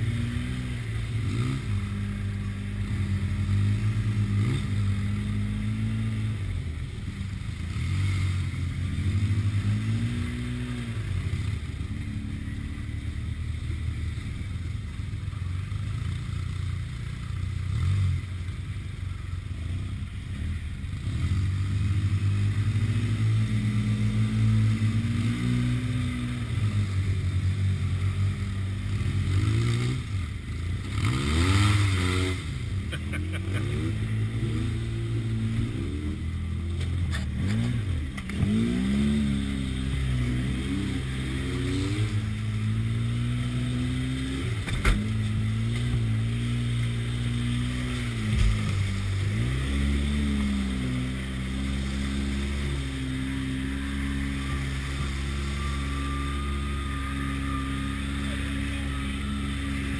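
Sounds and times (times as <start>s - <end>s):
utility vehicle engine revving: 0.0s - 59.9s.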